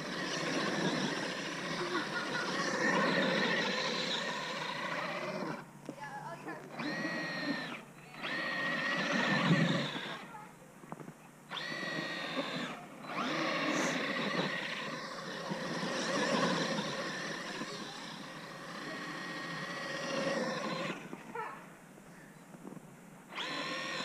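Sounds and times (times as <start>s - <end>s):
electric motor whining: 0.0s - 5.7s, 6.6s - 10.4s, 11.5s - 21.4s, 23.3s - 24.0s.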